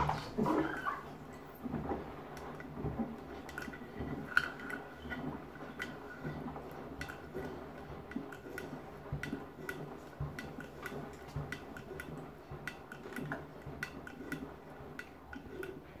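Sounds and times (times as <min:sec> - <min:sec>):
sandals knocking in washing drum: 0:00.0 - 0:16.0
washing machine motor hum: 0:00.0 - 0:16.0
water sloshing: 0:00.0 - 0:16.0.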